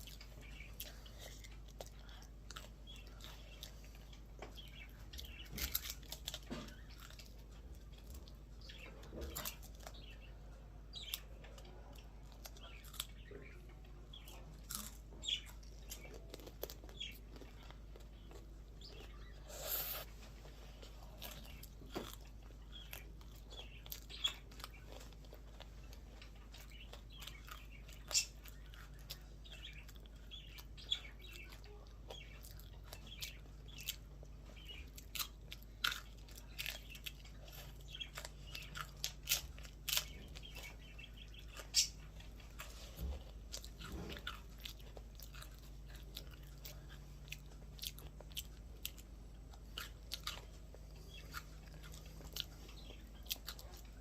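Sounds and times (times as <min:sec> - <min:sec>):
crunching ice cream cone: 0:00.0 - 0:54.0.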